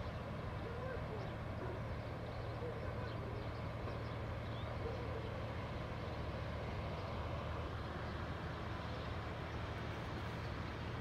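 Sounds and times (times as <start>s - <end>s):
ship diesel engine drone: 0.0s - 11.0s.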